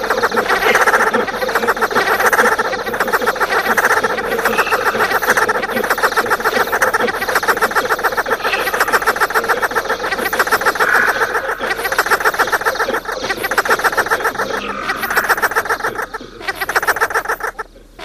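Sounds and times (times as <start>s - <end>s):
rapid rattling electronic pulses: 0.0s - 17.7s.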